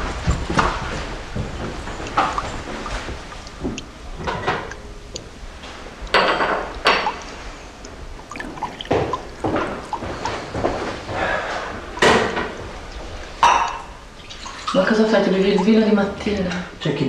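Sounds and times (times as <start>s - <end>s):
tap water splashing into sink: 0.3s - 15.0s.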